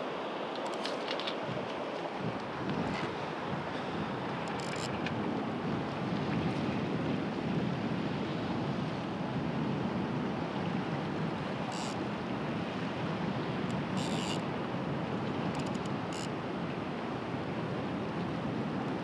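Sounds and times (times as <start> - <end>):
wind on microphone: 1.4 - 19.0.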